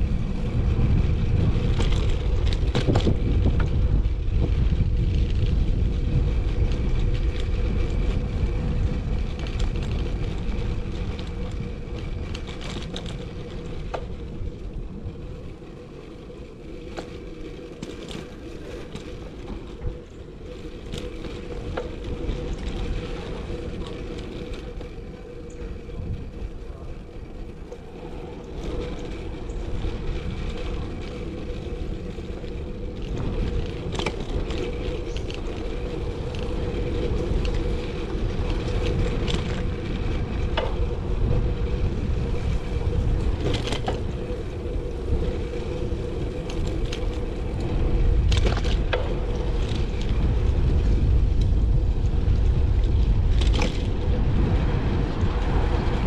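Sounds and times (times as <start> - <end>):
road rumble: 0.0 - 56.0
wind buffeting: 0.0 - 56.0.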